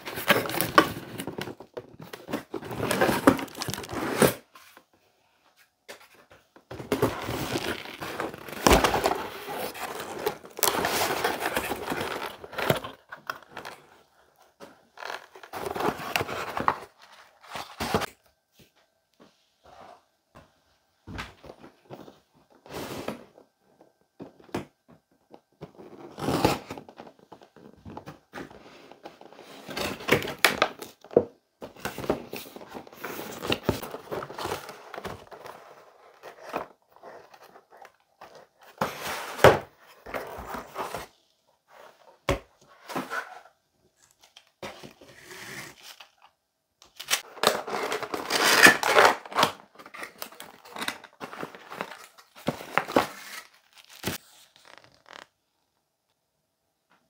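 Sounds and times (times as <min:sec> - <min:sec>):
cardboard and plastic packaging rustling: 0:00.0 - 0:18.8, 0:21.1 - 0:55.4.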